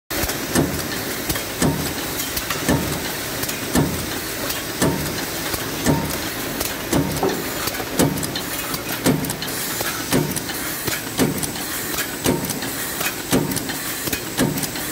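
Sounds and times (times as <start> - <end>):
power press stamping: 0.1 - 14.9.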